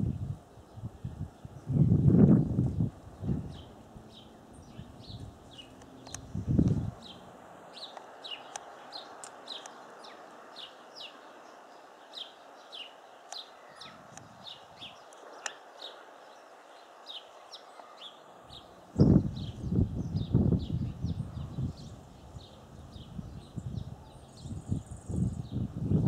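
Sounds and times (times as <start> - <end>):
songbirds calling: 0.0 - 26.0.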